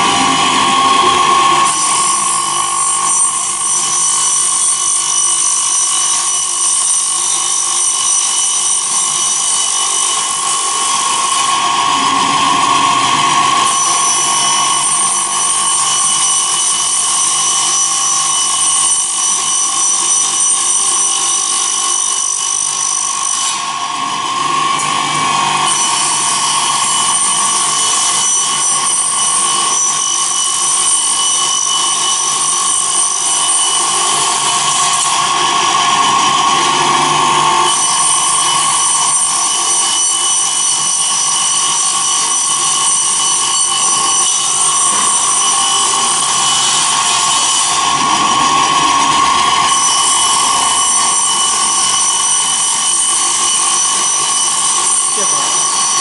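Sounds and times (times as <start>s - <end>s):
circular saw blade cutting: 0.0s - 56.0s.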